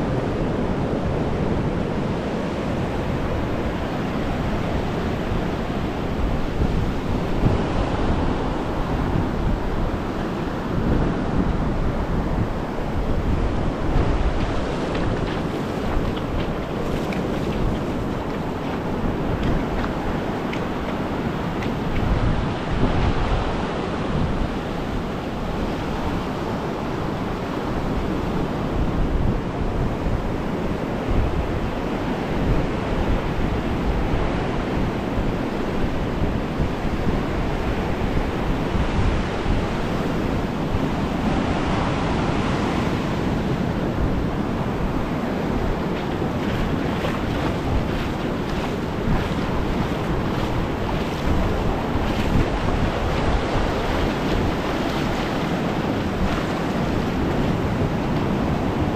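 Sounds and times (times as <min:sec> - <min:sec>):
surf washing onto beach: 0:00.0 - 0:58.9
wind buffeting microphone: 0:00.0 - 0:58.9.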